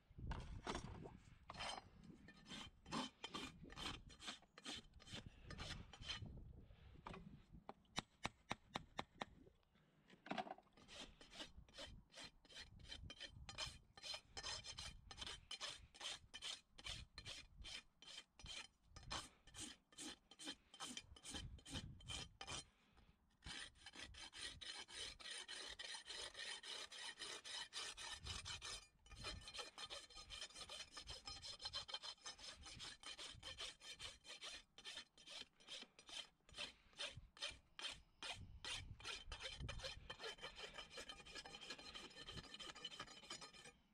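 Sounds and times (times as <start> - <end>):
rasp scraping hoof: 1.5 - 6.3, 10.8 - 22.7, 23.4 - 43.8.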